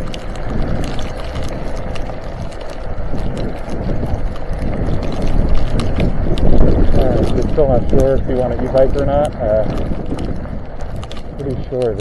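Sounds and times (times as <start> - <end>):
bike tires rolling: 0.0 - 12.0
snow crunching: 0.0 - 12.0
wind on microphone: 0.0 - 12.0.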